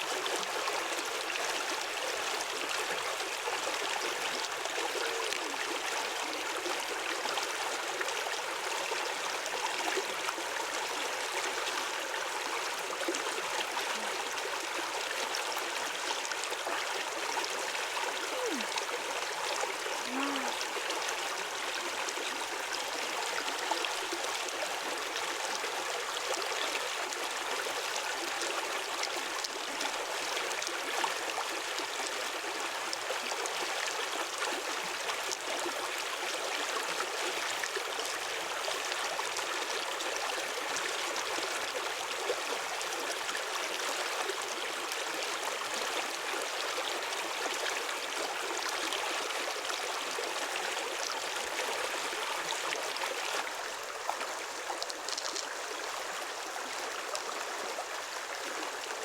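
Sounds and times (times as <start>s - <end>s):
stream rushing and trickling: 0.0s - 59.0s.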